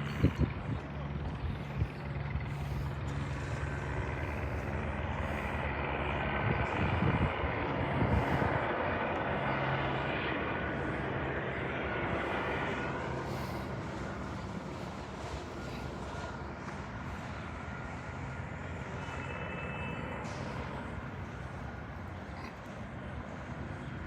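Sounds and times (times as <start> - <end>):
helicopter flying overhead: 0.0 - 24.0.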